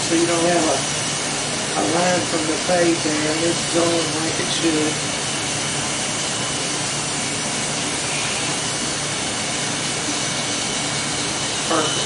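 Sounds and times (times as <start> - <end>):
small electric motor whirring: 1.8 - 12.0.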